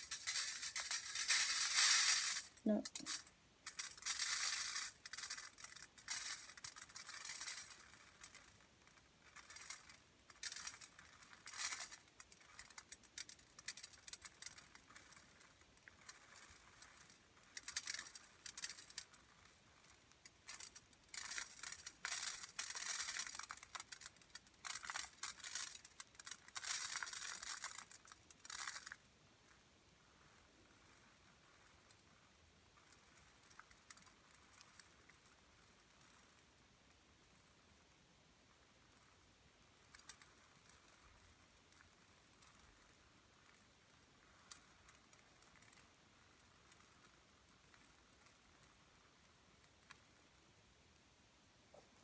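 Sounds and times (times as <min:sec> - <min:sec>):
rice grains pattering: 0:00.0 - 0:50.4.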